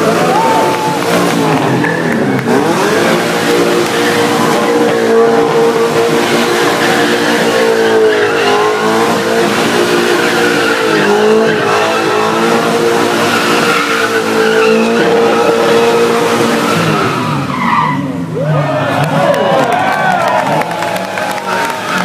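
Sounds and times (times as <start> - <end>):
tyres squealing: 0.0 - 18.2
car engine at high revs: 0.0 - 22.0.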